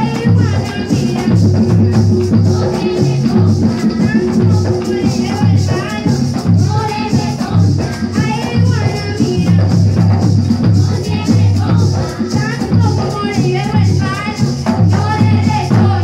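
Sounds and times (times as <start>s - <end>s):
woman singing into a microphone: 0.0s - 10.0s, 10.7s - 16.0s
hand drum beat: 0.0s - 16.0s
maracas shaking: 0.0s - 16.0s.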